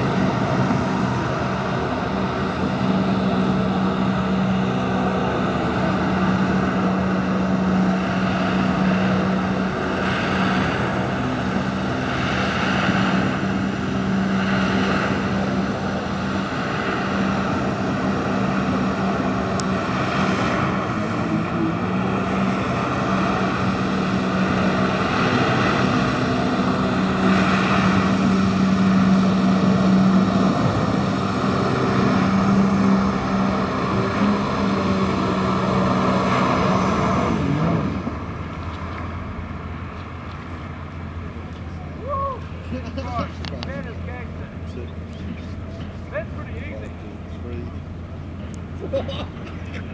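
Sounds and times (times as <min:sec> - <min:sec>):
watercraft engine running hard: 0:00.0 - 0:49.9.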